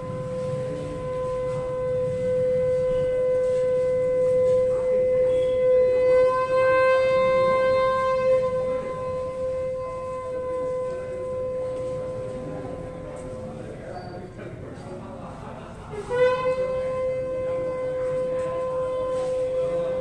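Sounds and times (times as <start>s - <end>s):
long horn-like tone: 0.0s - 14.2s, 15.9s - 20.0s.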